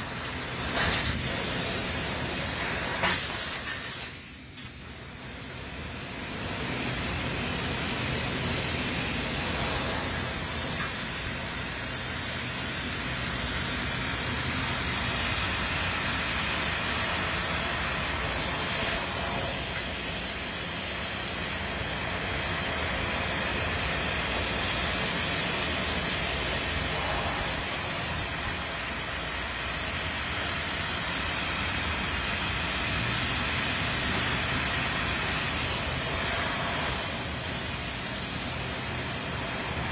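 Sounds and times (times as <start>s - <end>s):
machinery high hiss: 0.0s - 39.9s.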